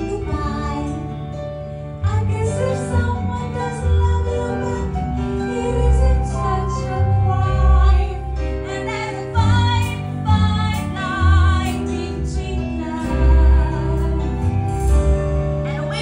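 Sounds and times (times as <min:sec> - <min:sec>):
woman singing with vibrato: 0:00.0 - 0:01.2, 0:02.0 - 0:14.8, 0:15.6 - 0:16.0
backing music with deep bass: 0:00.0 - 0:16.0.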